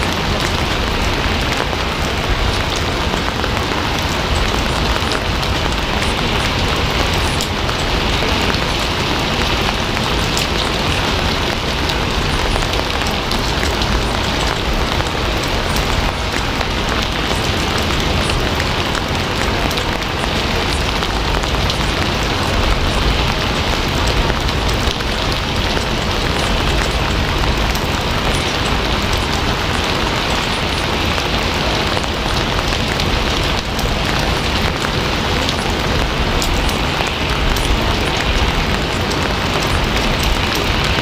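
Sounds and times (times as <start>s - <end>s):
raindrop ticks: 0.0s - 41.0s
steady rain hiss: 0.0s - 41.0s.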